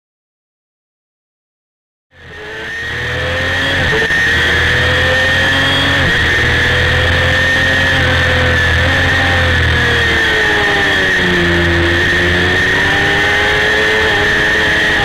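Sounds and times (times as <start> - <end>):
motorcycle engine accelerating: 2.1 - 15.0.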